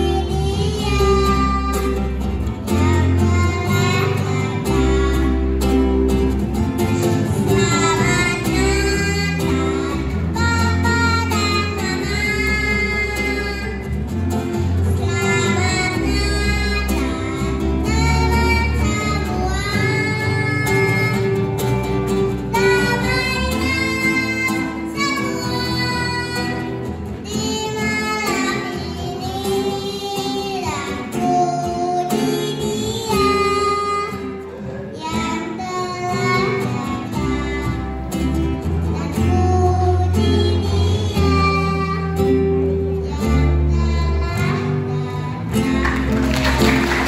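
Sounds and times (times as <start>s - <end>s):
boy singing into a microphone: 0.0s - 5.9s, 6.8s - 45.8s
instrumental accompaniment with guitar: 0.0s - 47.0s.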